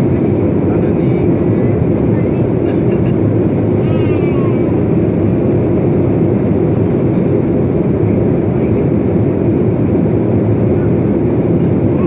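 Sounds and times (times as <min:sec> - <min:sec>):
jet engines and airflow rushing: 0:00.0 - 0:12.0.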